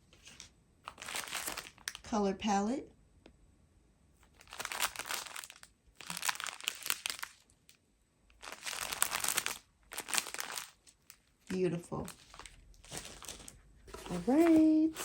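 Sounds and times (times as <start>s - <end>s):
plastic packaging crinkling: 0.2s - 2.1s, 4.2s - 15.0s.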